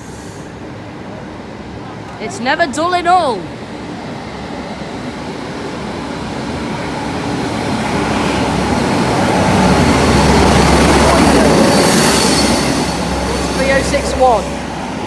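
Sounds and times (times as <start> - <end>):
train running through station: 0.0 - 15.0.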